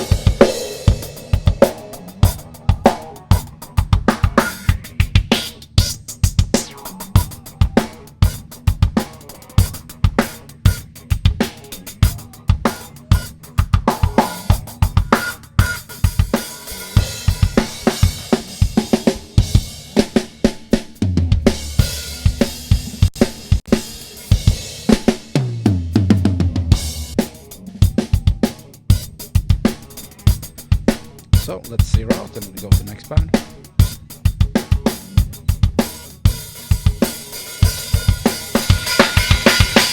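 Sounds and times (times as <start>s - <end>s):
drum kit playing rock beat: 0.0s - 39.9s
low drum fills: 0.0s - 39.9s.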